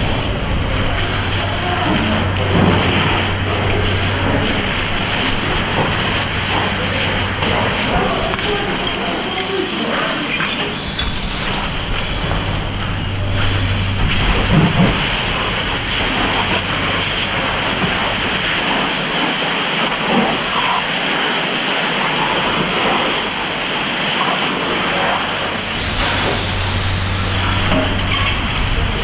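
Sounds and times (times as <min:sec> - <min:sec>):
water jet hissing spray: 0:00.0 - 0:29.0.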